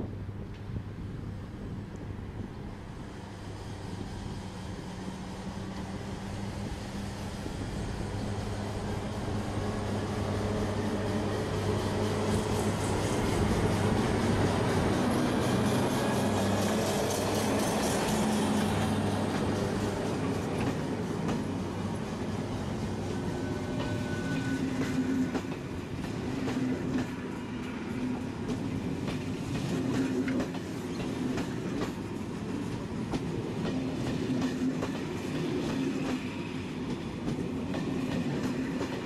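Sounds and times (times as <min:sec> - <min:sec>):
electric locomotive hum: 0:00.0 - 0:39.0.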